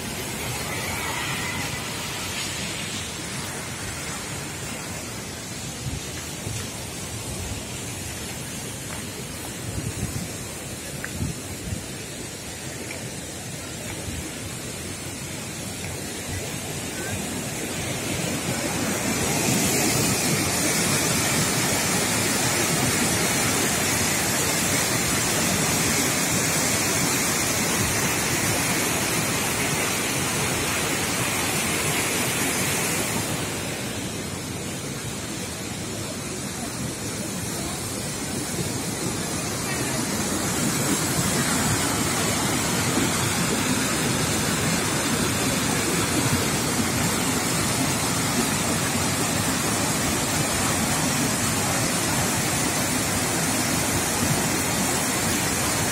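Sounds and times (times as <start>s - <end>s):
waterfall rushing over boulders: 0.0s - 55.9s.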